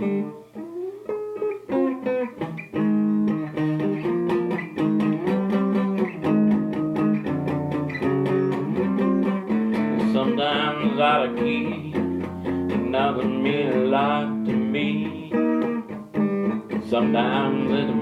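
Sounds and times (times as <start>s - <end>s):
instrumental guitar music: 0.0s - 18.0s.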